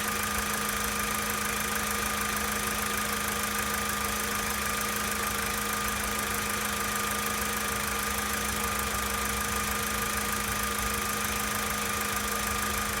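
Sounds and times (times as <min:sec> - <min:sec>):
car engine idling with knock: 0:00.0 - 0:13.0.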